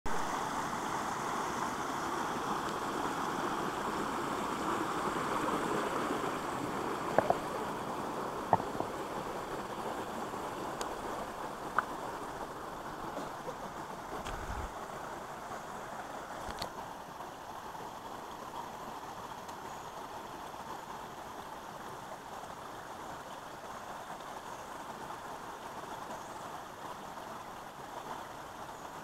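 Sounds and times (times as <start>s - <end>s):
water rushing over rocks: 0.1s - 29.0s.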